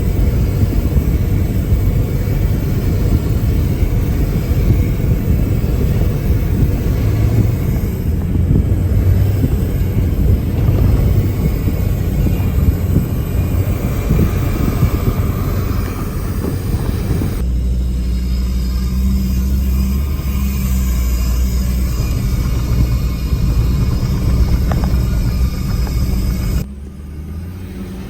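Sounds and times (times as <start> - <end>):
vehicle low rumble: 0.0 - 28.0.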